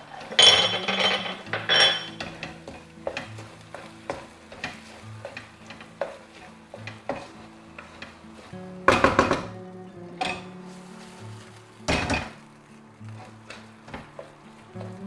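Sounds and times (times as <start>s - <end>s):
spoon scraping a pan: 0.0s - 9.5s, 10.2s - 15.0s
faint background music: 0.0s - 15.0s
faint sizzle: 0.0s - 15.0s.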